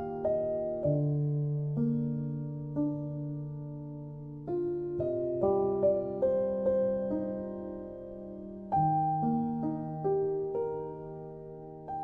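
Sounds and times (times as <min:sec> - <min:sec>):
slow soft piano music: 0:00.0 - 0:12.0.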